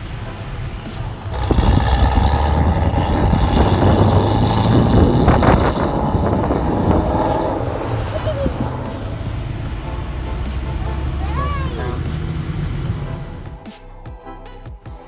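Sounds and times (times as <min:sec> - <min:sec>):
vehicle engine and road rumble: 0:00.0 - 0:13.9.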